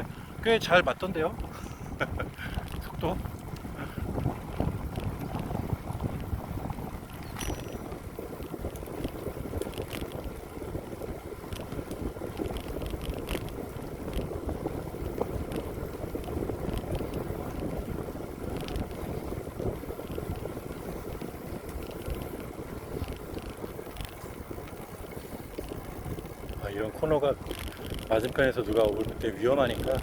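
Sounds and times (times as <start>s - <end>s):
wind and tyre noise: 0.0s - 30.0s
bicycle clicks and rattles: 0.6s - 30.0s.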